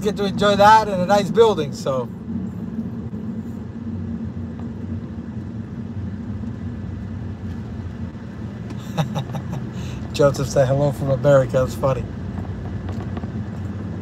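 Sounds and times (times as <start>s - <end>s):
road and engine rumble in car: 0.0s - 14.0s.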